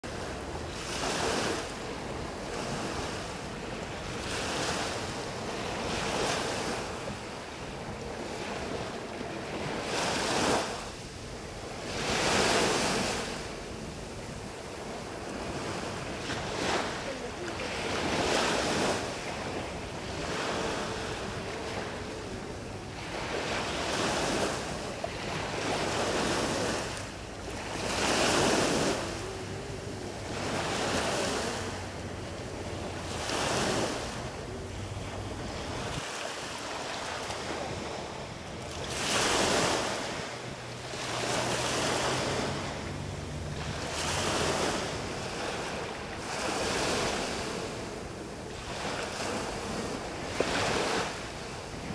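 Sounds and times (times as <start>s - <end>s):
sea waves breaking on beach: 0.0s - 51.9s.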